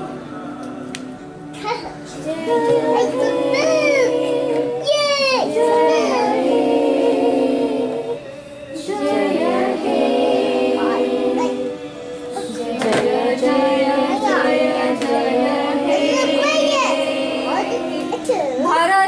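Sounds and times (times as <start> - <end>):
children singing in unison: 2.0 - 18.7.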